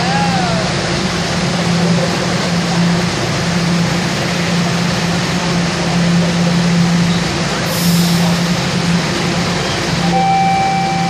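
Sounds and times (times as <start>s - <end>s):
low motor hum: 0.0s - 11.0s
subway train rumbling in tunnel: 0.0s - 11.0s.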